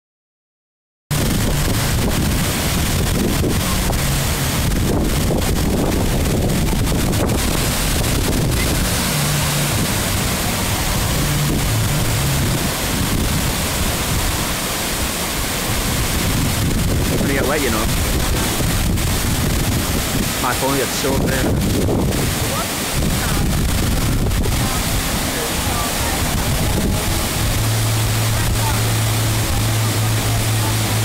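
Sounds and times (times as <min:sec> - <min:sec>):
wind buffeting microphone: 0:01.1 - 0:20.5, 0:21.1 - 0:31.0
rushing water pouring: 0:01.1 - 0:31.0.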